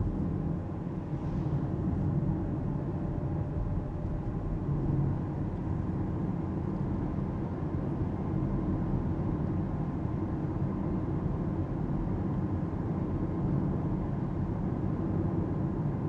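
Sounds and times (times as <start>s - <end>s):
in-cabin road and tyre noise: 0.0s - 16.0s.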